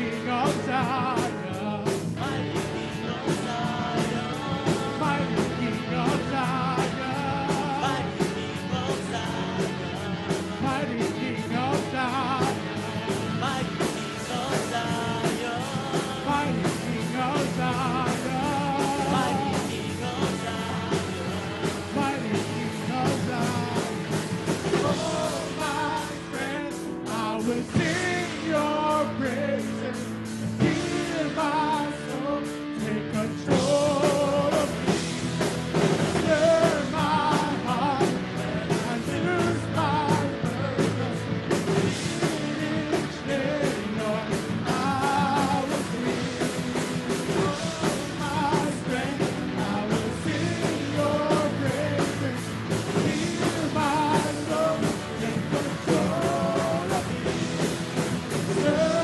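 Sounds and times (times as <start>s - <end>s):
electric bass: 0.0s - 59.0s
electric guitars: 0.0s - 59.0s
keyboard: 0.0s - 59.0s
man singing lead: 0.0s - 59.0s
steady drum beat: 0.0s - 59.0s.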